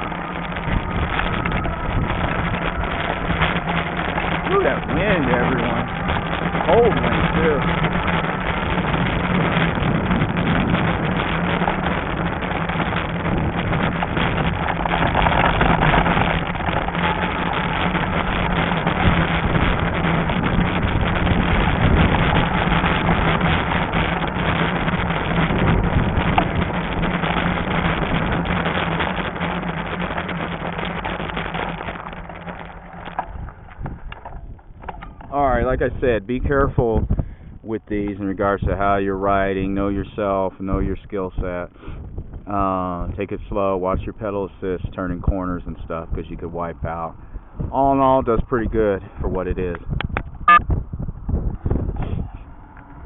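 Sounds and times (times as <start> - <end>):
constant low hum: 0.0 - 53.0
wind rushing over microphone: 0.0 - 53.0.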